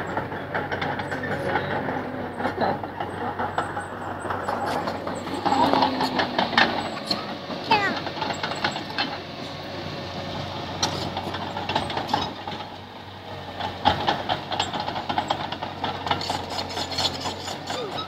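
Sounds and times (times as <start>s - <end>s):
diesel engine running: 0.0s - 18.0s
steel tracks clattering: 0.0s - 18.0s.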